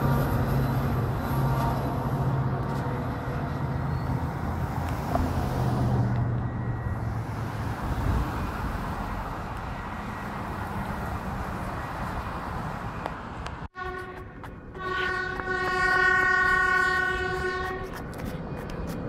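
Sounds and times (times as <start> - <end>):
diesel locomotive droning: 0.0 - 19.0
road traffic: 0.0 - 19.0.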